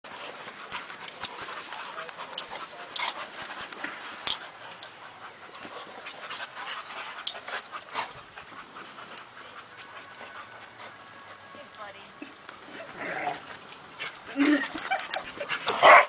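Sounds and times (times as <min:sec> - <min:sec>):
dog noises: 0:00.1 - 0:16.0
dogs scuffling in sand: 0:00.1 - 0:16.0.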